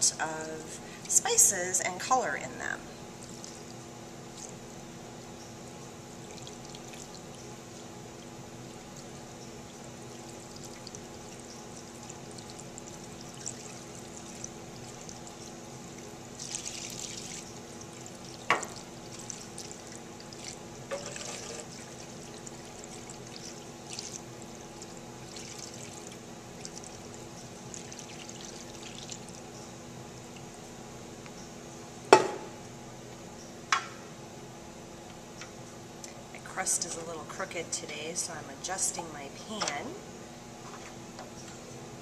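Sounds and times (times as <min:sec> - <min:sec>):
background hum: 0:00.0 - 0:42.0.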